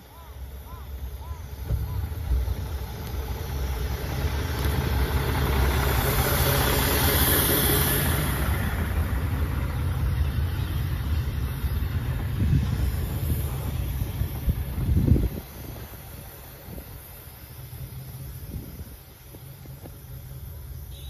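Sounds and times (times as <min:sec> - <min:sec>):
diesel railcar engine rumbling: 0:00.0 - 0:21.0
train wheel and running noise: 0:00.0 - 0:21.0.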